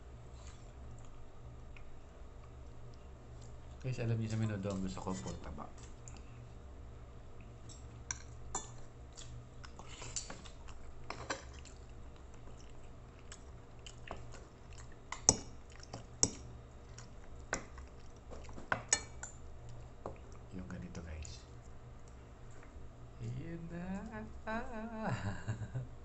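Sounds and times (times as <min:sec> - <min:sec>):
steady low hum: 0:00.0 - 0:26.0
chewing: 0:00.3 - 0:06.6, 0:07.4 - 0:20.5, 0:21.2 - 0:22.8.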